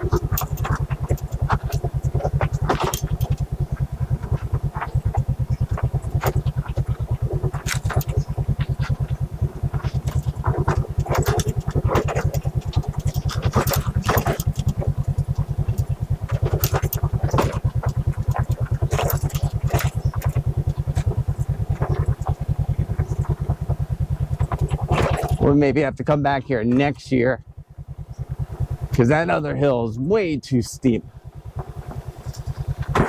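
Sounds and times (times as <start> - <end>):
motorcycle clicks and rattles: 0.0 - 25.5, 26.2 - 29.0, 31.0 - 33.0
motorcycle engine running at low revs: 0.0 - 33.0.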